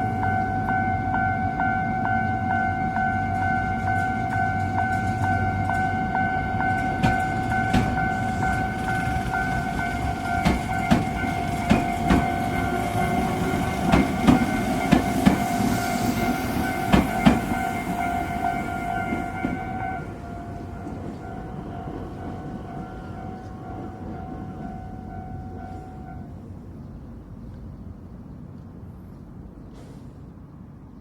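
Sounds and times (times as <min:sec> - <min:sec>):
train wheels clacking: 0:00.0 - 0:26.2
crossing warning bell: 0:00.0 - 0:26.7
train rumble: 0:00.0 - 0:30.9.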